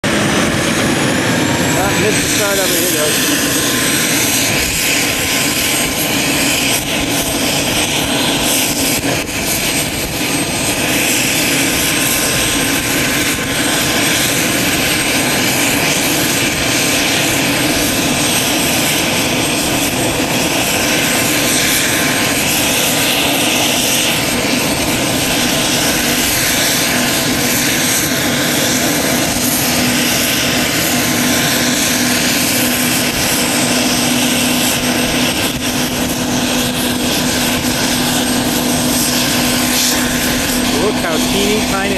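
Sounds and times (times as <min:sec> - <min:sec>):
helicopter turbine whine: 0:00.0 - 0:41.9.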